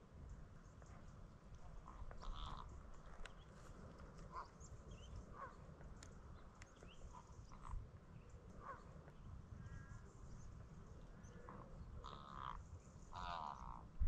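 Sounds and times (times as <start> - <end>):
distant bird calls: 0.3 - 14.0.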